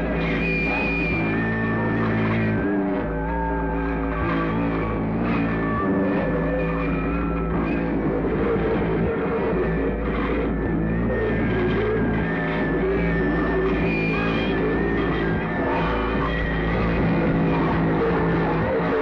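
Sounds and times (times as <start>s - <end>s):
harsh noise music: 0.0s - 19.0s.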